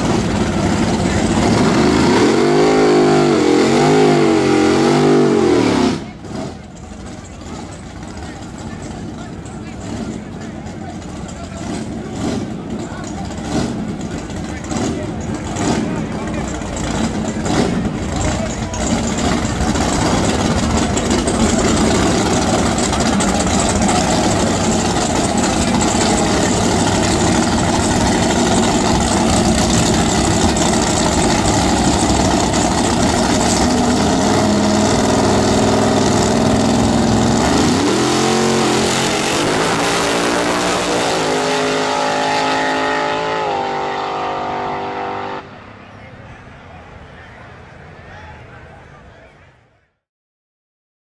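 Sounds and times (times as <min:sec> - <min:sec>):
drag car engine accelerating: 0:00.0 - 0:45.7.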